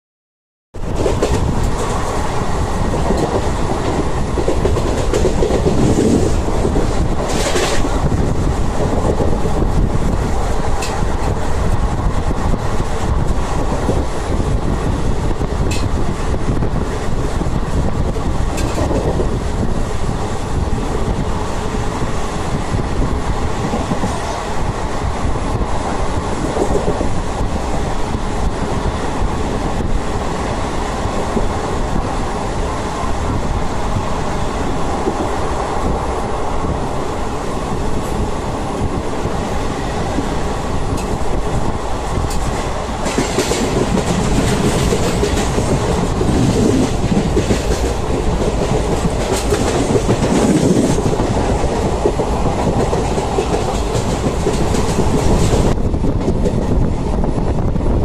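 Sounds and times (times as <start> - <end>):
train wheels rumbling on rails: 0.7 - 58.0.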